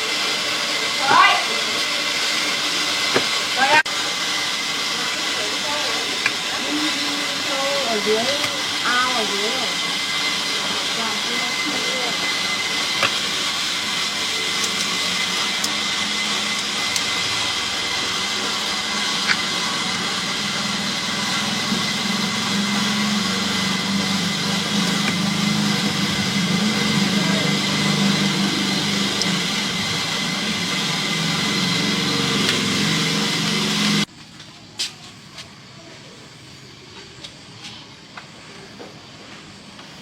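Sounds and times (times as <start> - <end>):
machine hissing: 0.0 - 34.1.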